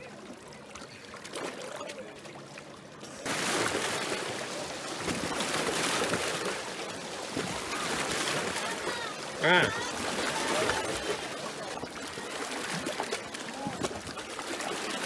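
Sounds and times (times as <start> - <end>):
small waves lapping over rocks: 0.0 - 15.0.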